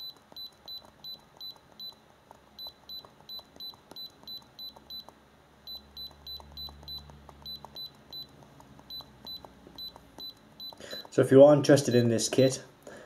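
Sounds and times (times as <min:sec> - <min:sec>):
short high-pitched key beeps: 0:00.0 - 0:02.0, 0:02.6 - 0:11.2, 0:11.8 - 0:12.2.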